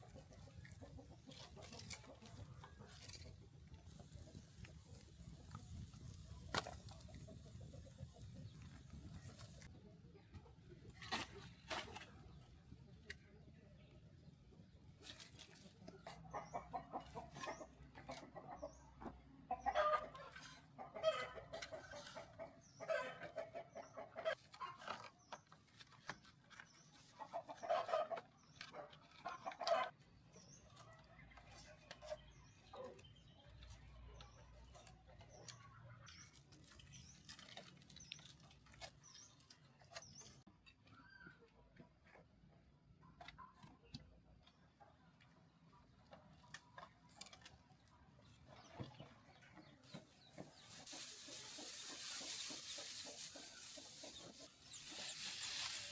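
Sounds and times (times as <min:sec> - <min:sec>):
chickens clucking: 0:00.0 - 0:12.4, 0:14.5 - 0:25.4, 0:26.7 - 0:36.3, 0:41.4 - 0:55.9.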